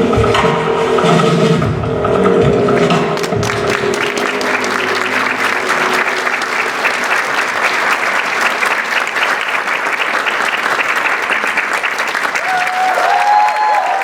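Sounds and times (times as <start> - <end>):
music: 0.0 - 11.2
audience applauding: 2.8 - 14.0.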